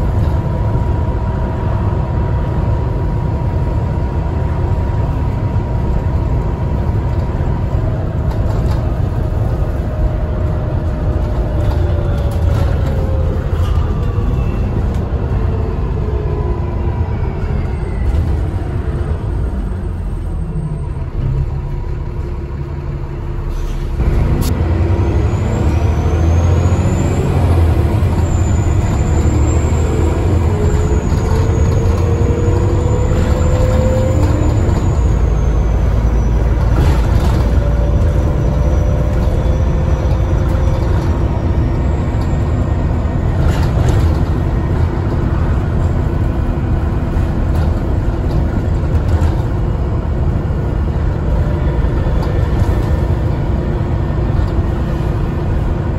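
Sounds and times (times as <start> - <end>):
bus diesel engine rumble: 0.0 - 55.9.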